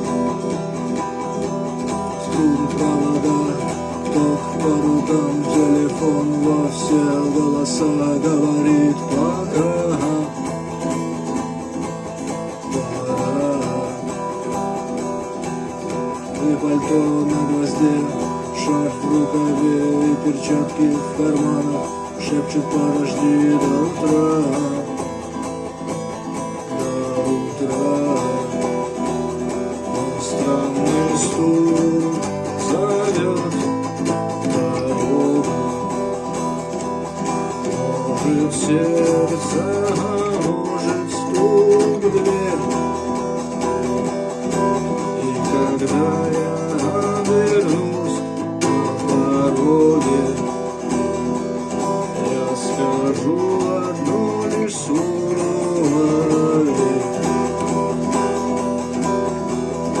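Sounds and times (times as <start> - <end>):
acoustic guitar playing: 0.0 - 60.0.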